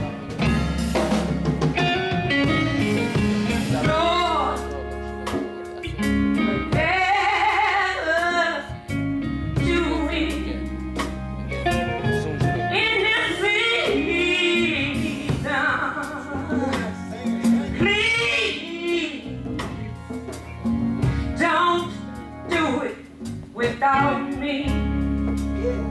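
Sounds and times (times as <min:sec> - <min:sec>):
band playing gospel music: 0:00.0 - 0:25.9.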